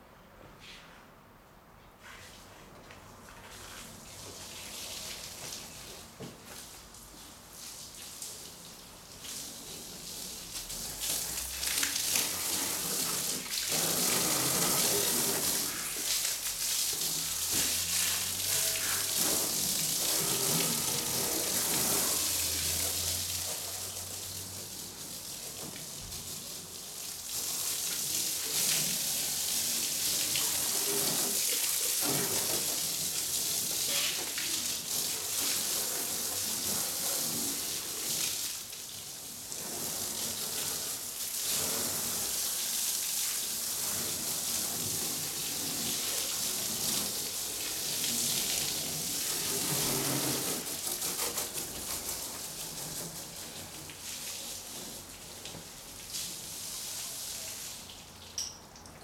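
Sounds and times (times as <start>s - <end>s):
hose spraying water: 2.0s - 58.5s
water splashing on pavement: 3.4s - 58.4s.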